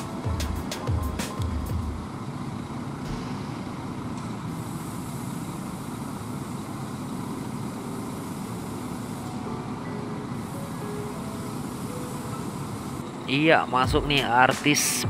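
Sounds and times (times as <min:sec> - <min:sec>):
diesel bus engines idling: 0:00.0 - 0:15.0.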